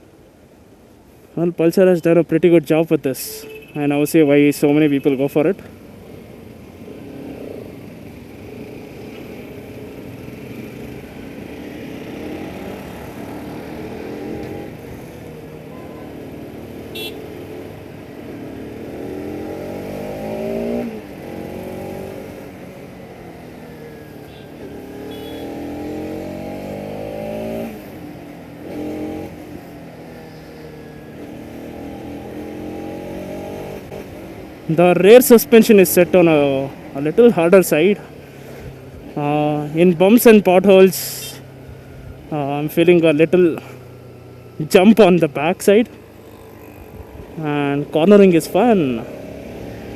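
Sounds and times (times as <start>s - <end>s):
motorcycle engine revving: 5.9s - 49.9s.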